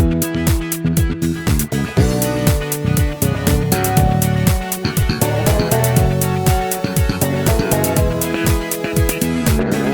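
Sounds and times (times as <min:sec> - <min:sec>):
electric bass playing: 0:00.0 - 0:09.9
funk backing track: 0:00.0 - 0:09.9
kick drum and hi-hats: 0:00.0 - 0:09.9.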